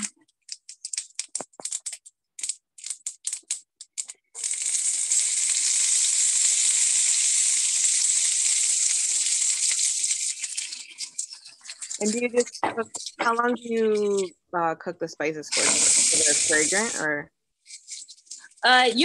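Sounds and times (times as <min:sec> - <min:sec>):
loud steady sizzle: 0:00.0 - 0:14.3, 0:15.5 - 0:19.0
spices crackling in hot oil: 0:00.0 - 0:14.3, 0:15.5 - 0:18.7.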